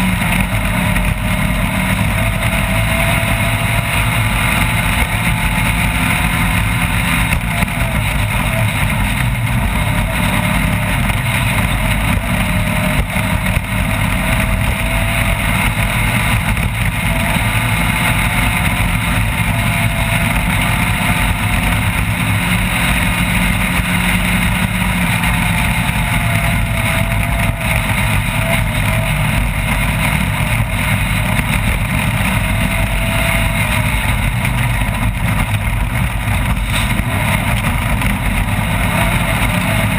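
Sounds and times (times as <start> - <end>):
off-road vehicle engine: 0.0 - 39.9
rumble and rattle: 0.0 - 39.9.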